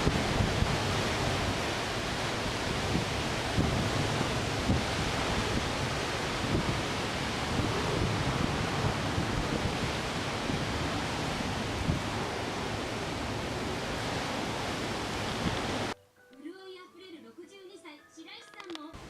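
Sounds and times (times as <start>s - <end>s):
strong wind rushing: 0.0s - 16.0s
wind gusts buffeting microphone: 0.0s - 16.0s.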